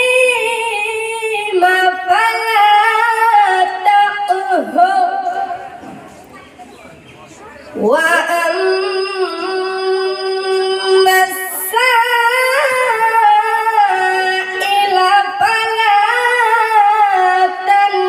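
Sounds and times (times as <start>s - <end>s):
boy chanting recitation: 0.0s - 6.6s, 7.4s - 18.0s.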